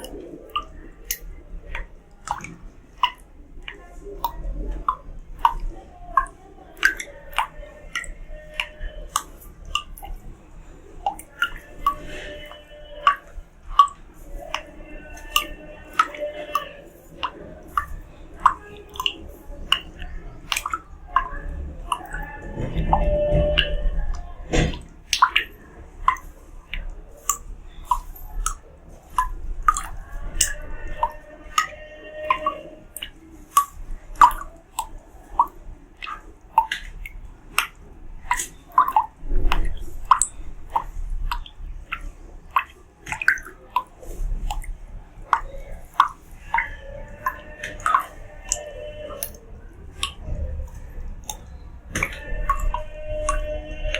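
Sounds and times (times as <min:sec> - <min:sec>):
water drops plinking into water: 0:00.0 - 0:53.9.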